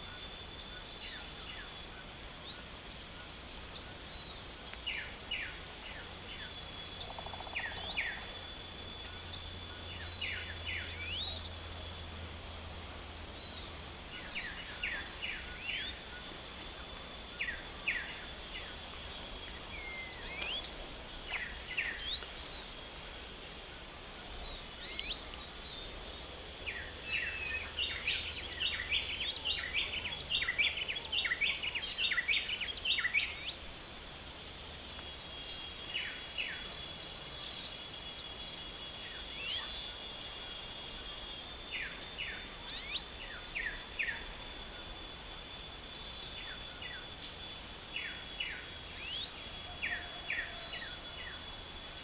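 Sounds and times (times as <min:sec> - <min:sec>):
flock of birds chirping: 0:00.0 - 0:52.0
high insect drone: 0:00.0 - 0:52.0.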